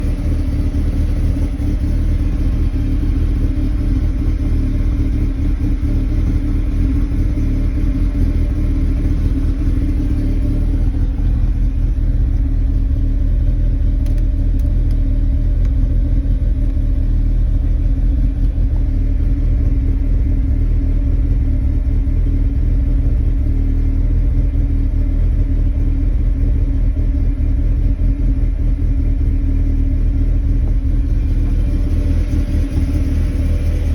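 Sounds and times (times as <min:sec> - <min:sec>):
car engine idling roughly: 0:00.0 - 0:33.9.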